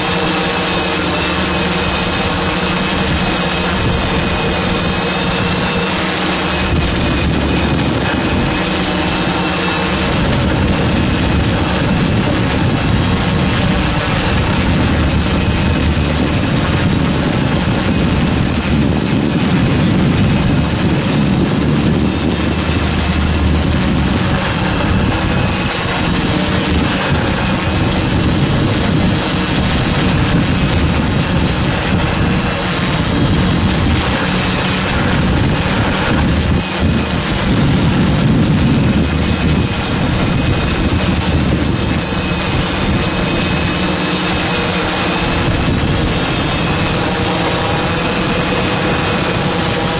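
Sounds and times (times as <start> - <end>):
drone motors buzzing: 0.0 - 49.9.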